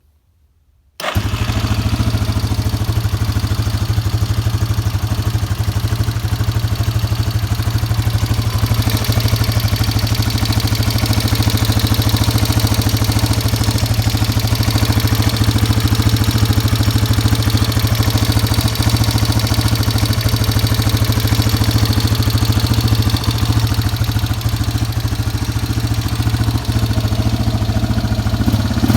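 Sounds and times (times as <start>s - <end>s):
atv engine idling with ticking: 1.0s - 28.9s.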